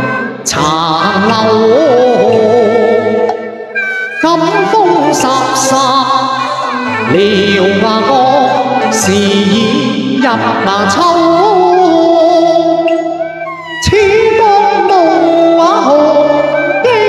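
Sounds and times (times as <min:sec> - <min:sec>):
man singing opera into microphone: 0:00.0 - 0:03.3, 0:04.1 - 0:13.0, 0:13.8 - 0:17.0
instrumental accompaniment: 0:00.0 - 0:17.0.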